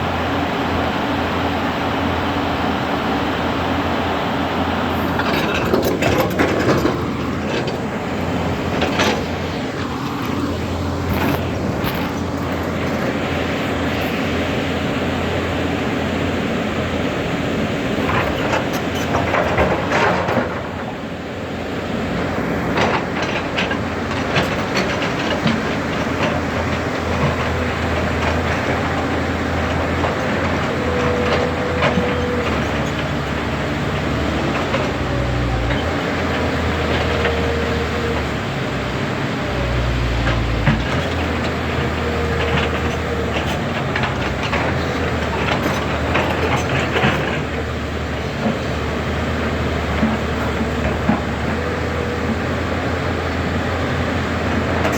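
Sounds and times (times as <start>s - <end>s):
diesel engine humming: 0.0s - 54.9s.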